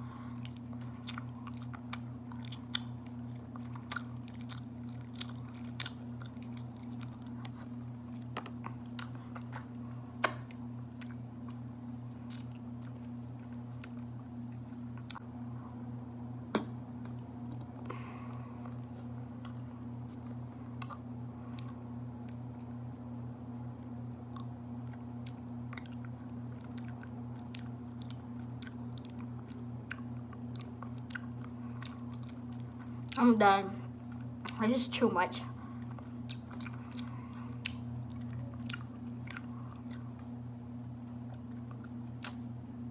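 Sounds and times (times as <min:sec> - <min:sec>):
low hum: 0:00.0 - 0:42.9
chewing honeycomb: 0:00.2 - 0:15.8, 0:17.1 - 0:22.7, 0:24.0 - 0:34.7, 0:35.5 - 0:42.6.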